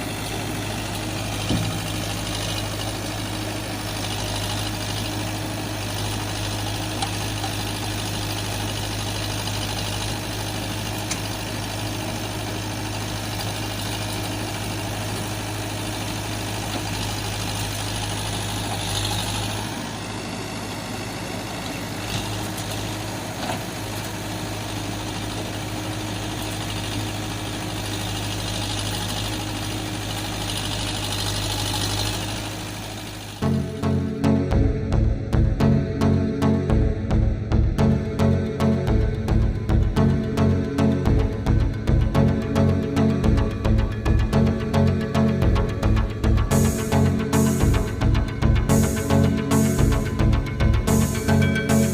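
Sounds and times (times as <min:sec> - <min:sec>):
vehicle engine idling: 0:00.0 - 0:51.9.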